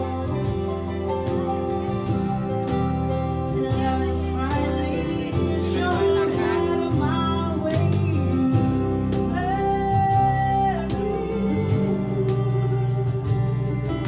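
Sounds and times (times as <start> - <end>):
cajon beat: 0.0 - 14.0
live band playing pop song: 0.0 - 14.0
person singing: 0.0 - 14.0.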